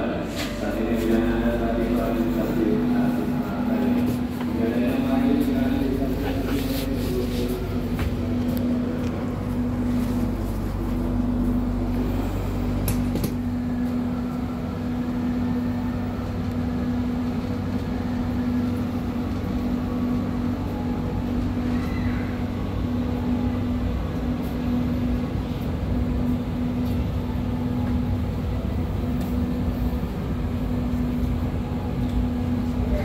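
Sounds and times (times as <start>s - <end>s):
train carriage machinery hum: 0.0s - 33.0s.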